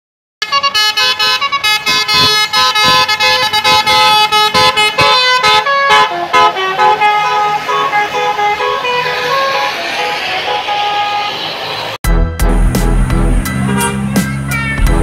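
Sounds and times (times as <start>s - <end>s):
bus horn playing a tune: 0.4s - 12.0s, 13.4s - 15.0s.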